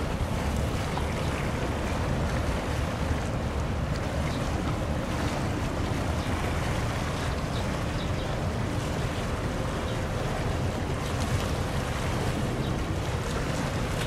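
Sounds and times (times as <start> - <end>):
ship rumbling: 0.0 - 14.0
water rushing along hull: 0.0 - 14.0
wind on microphone: 0.0 - 14.0.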